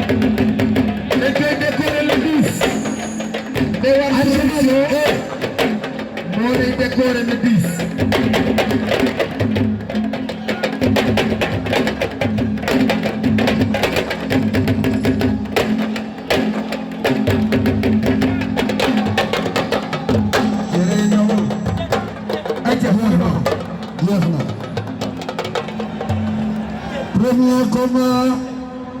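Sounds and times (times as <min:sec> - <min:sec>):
drums in fast rhythm: 0:00.0 - 0:27.8.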